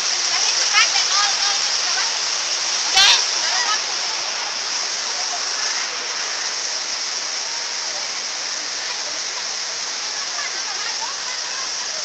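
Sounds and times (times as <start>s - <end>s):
heavy rain downpour: 0.0s - 12.0s
rushing floodwater: 0.0s - 12.0s.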